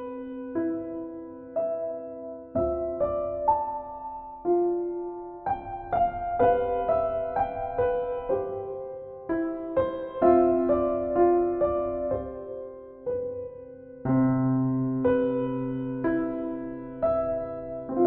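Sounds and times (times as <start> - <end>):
slow solo piano: 0.0 - 18.0.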